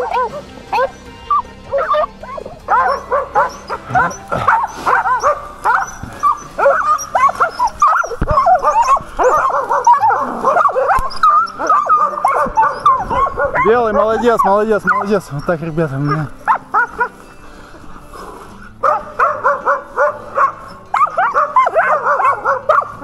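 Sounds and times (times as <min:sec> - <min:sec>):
pack of dogs barking: 0:00.0 - 0:23.0.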